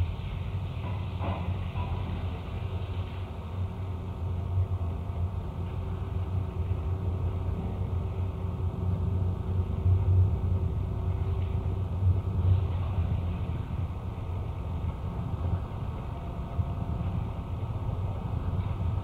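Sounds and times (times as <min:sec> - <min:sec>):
churning low rumble: 0:00.0 - 0:19.0.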